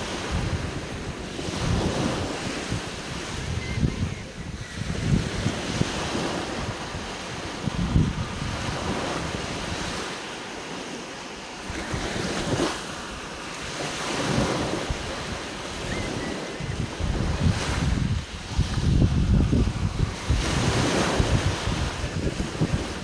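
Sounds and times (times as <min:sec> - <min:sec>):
surf washing onto sandy beach: 0:00.0 - 0:23.0
wind buffeting microphone: 0:00.0 - 0:23.0.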